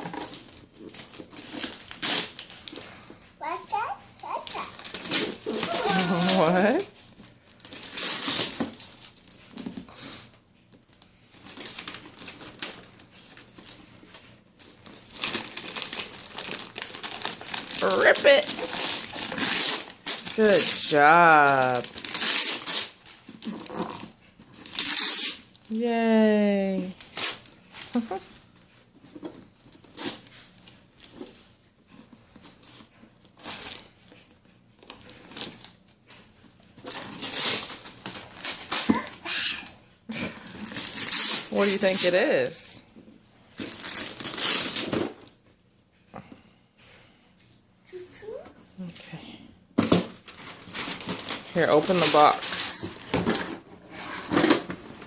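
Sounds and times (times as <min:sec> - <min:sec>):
wrapping paper rustling and tearing: 0:00.0 - 0:42.7, 0:43.4 - 0:45.4, 0:49.9 - 0:55.0.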